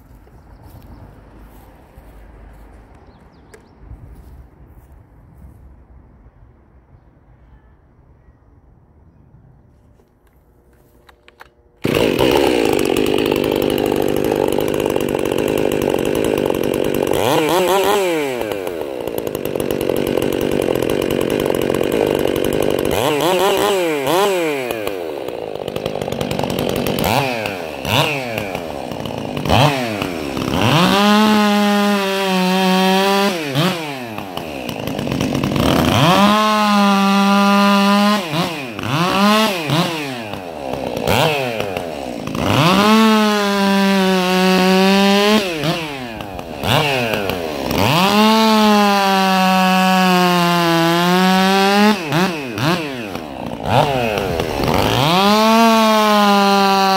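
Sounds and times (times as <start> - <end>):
chainsaw engine revving: 11.1 - 56.9.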